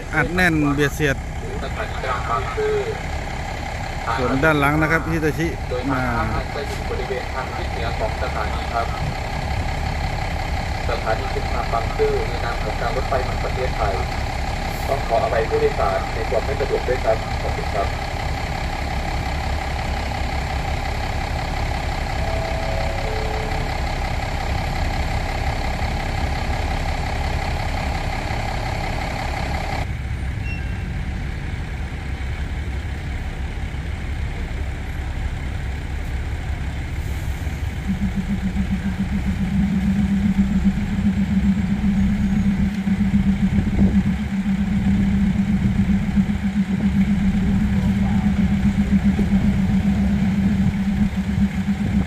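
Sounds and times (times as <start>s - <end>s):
diesel engines rumbling: 0.0s - 52.0s
locomotive low hum: 0.0s - 52.0s.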